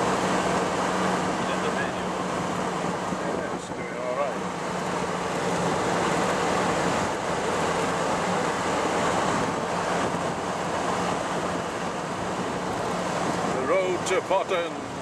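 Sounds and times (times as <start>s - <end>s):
car engine drone: 0.0s - 15.0s
wind and road rush: 0.0s - 15.0s.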